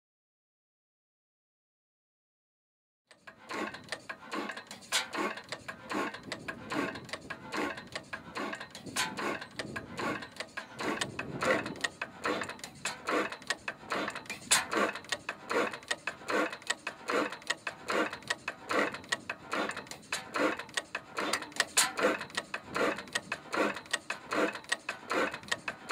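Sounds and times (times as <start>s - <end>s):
old engine rhythmic clatter: 3.1s - 25.9s.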